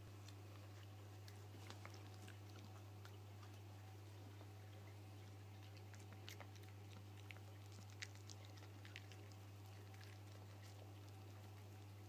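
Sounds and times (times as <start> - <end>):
puppy chewing and smacking: 0.0 - 12.0
steady low hum: 0.0 - 12.0.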